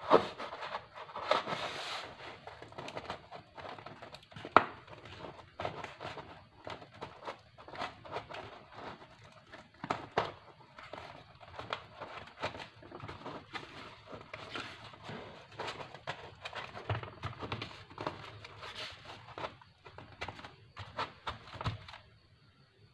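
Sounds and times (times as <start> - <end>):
cardboard box being handled: 0.0 - 22.0.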